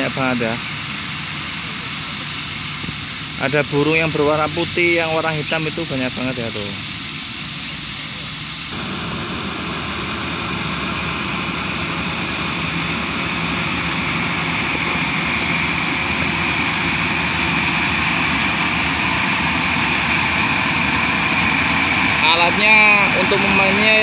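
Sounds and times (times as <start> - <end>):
combine harvester engine drone: 0.0 - 24.0.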